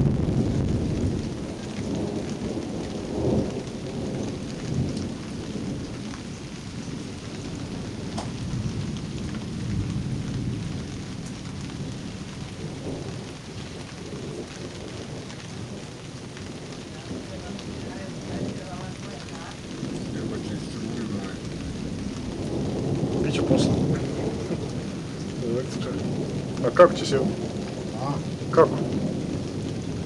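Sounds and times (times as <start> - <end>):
raindrops ticking: 0.0 - 30.0
steady rain: 0.0 - 30.0
thunder rumbling: 0.0 - 30.0.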